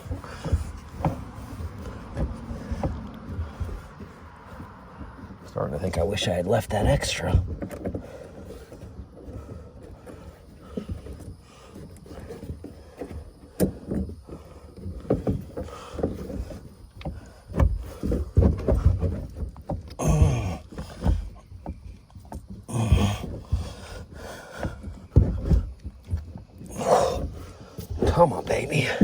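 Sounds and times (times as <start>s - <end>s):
hose knocking and scraping: 0.0s - 29.0s.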